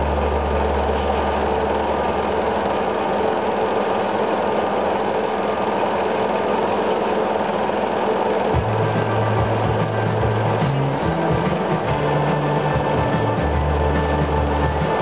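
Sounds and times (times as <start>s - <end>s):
steady mechanical running: 0.0s - 15.0s.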